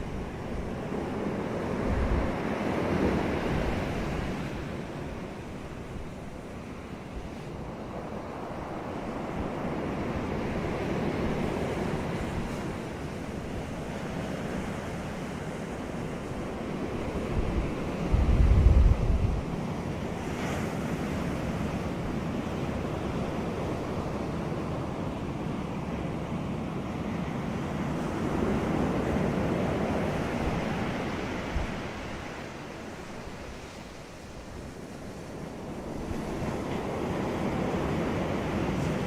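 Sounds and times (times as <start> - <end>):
ocean surf washing onto beach: 0.0 - 39.0.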